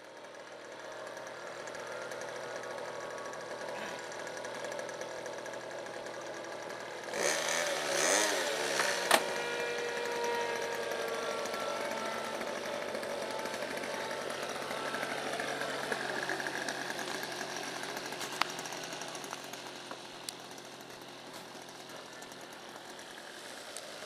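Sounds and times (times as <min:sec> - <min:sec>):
small model engine idling: 0:00.0 - 0:24.0.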